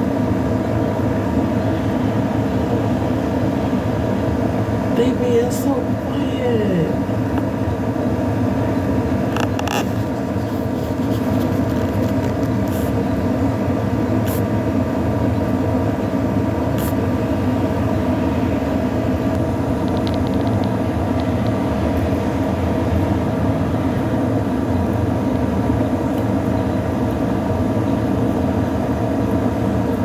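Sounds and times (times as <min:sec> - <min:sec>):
motor droning hum: 0:00.0 - 0:30.0.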